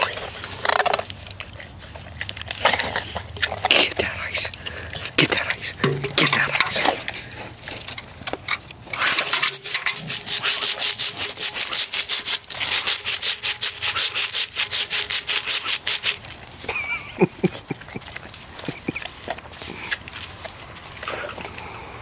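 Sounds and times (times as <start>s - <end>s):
dog tongue rasping on ice: 0.0s - 22.0s.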